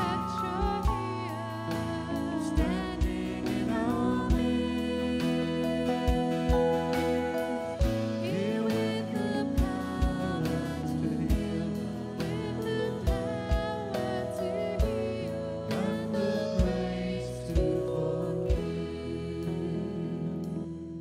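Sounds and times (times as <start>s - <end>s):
low drum beat: 0.0s - 19.6s
held instrumental chords: 0.0s - 21.0s
worship singing: 0.0s - 21.0s.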